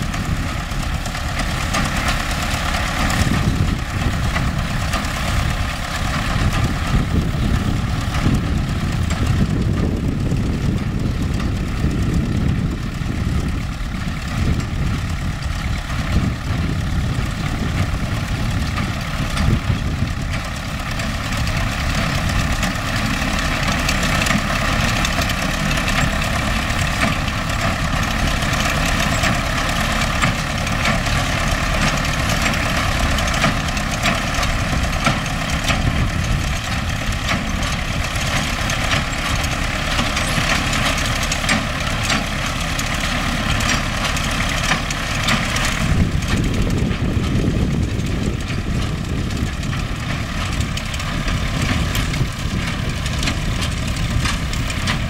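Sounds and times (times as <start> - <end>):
hay baler clattering: 0.0 - 55.0
tractor diesel engine running: 0.0 - 55.0.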